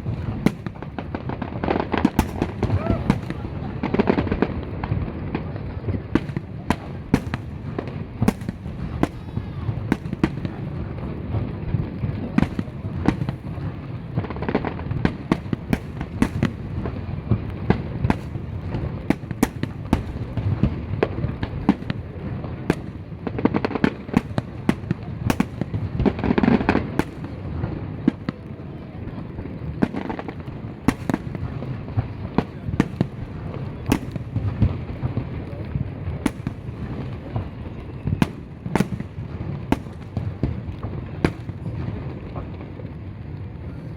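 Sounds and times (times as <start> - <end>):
fireworks bursting with bangs: 0.0 - 43.9.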